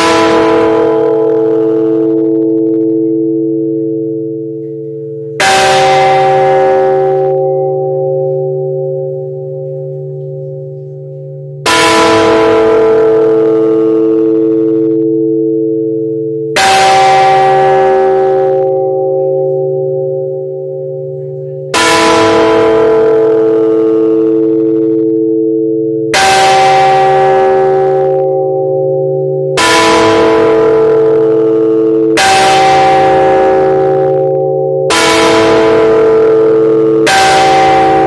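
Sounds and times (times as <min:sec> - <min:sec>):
church bells tolling: 0:00.0 - 0:38.0.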